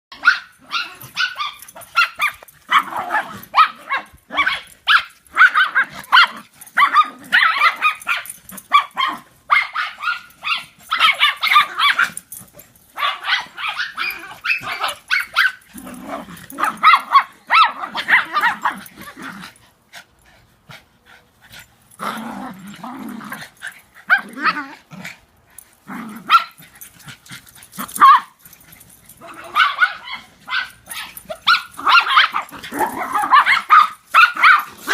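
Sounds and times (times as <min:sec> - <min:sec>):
dogs barking and growling: 0:00.1 - 0:34.9.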